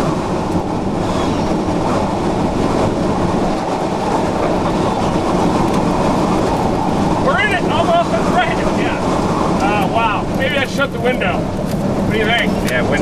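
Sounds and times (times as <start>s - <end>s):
tornado wind rumbling: 0.0s - 13.0s.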